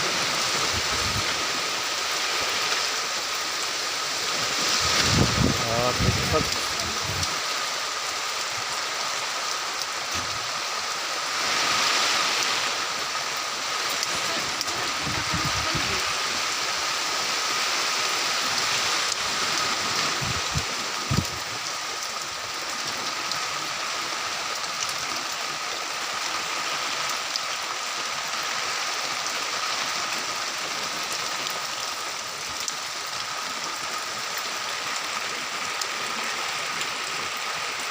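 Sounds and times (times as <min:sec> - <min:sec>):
water splashing and rushing: 0:00.0 - 0:37.9.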